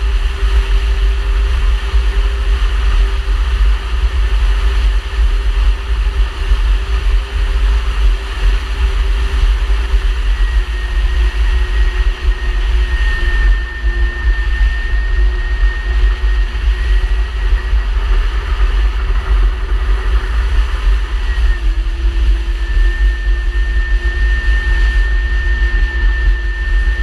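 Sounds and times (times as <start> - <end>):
jet ski engine running: 0.0 - 27.0.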